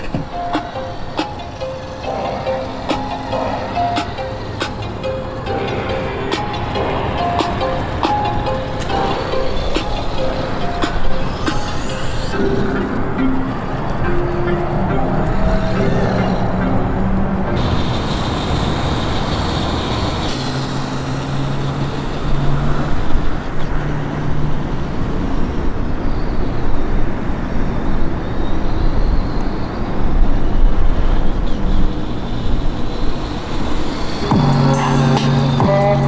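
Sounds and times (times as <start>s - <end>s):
truck engine sound effect: 0.0s - 26.0s, 31.0s - 36.0s.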